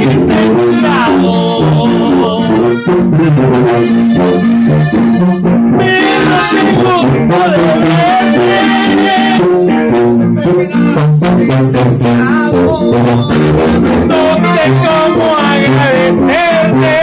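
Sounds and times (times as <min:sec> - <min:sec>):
button accordion melody: 0:00.0 - 0:17.0
sousaphone bass line: 0:00.0 - 0:17.0.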